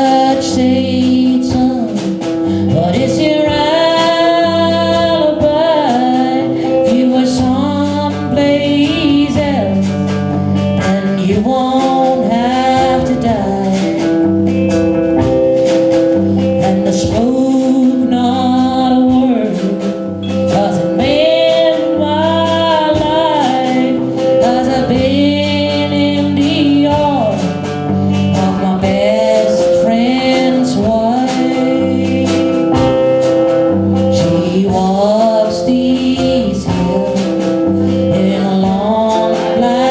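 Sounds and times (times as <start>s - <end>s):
acoustic guitar: 0.0s - 39.9s
country band music: 0.0s - 39.9s.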